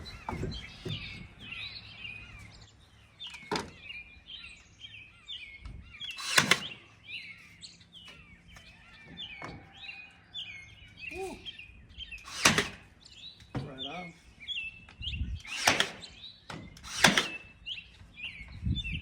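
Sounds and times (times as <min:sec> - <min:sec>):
small songbirds chirping: 0:00.0 - 0:19.0.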